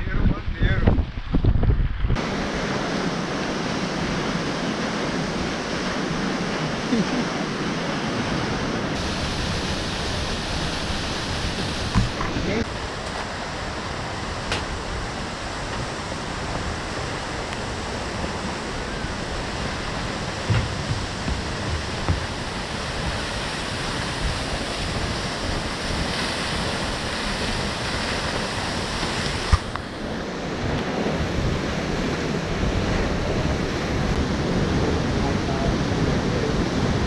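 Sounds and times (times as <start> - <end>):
wind on microphone: 0.0 - 37.0
waterfall rushing: 2.2 - 37.0.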